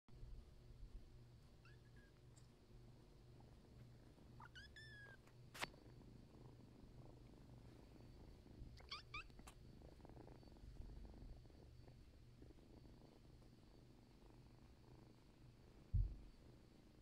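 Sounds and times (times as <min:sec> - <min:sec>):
kitten purring: 0:00.2 - 0:17.0.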